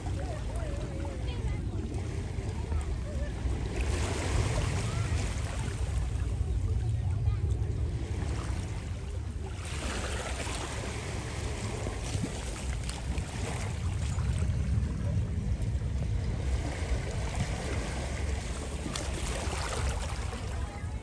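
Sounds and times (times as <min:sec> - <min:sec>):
low uneven rumble: 0:00.0 - 0:21.0
waves washing on sandy beach: 0:00.0 - 0:21.0.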